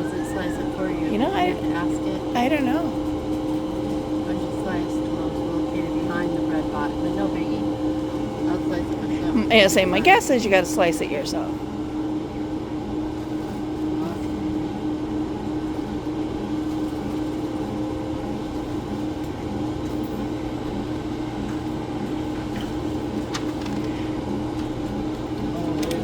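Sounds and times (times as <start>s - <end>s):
vending machine mechanical hum: 0.0s - 26.0s.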